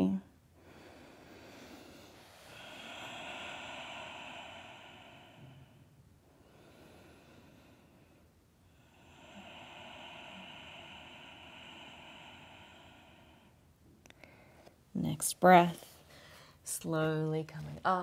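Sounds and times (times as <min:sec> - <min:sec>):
woman breathing slowly: 0:00.3 - 0:15.0, 0:15.8 - 0:16.8.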